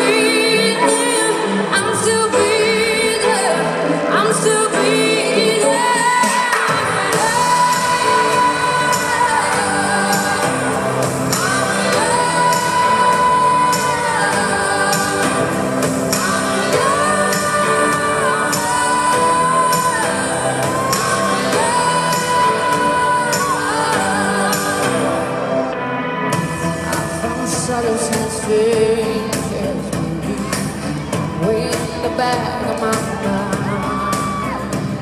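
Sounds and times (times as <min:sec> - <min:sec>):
live band playing: 0:00.0 - 0:35.0.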